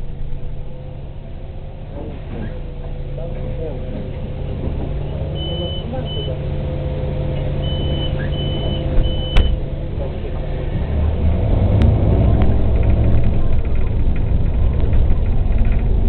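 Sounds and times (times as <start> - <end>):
bus engine idling: 0.0 - 11.3, 12.4 - 16.0.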